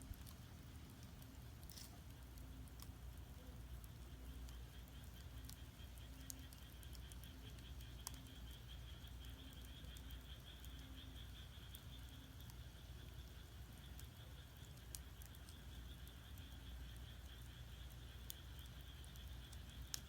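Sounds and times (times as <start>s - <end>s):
firewood crackling and popping: 0.0s - 20.0s
frogs croaking: 0.0s - 20.0s
low rumble of fire: 0.0s - 20.0s.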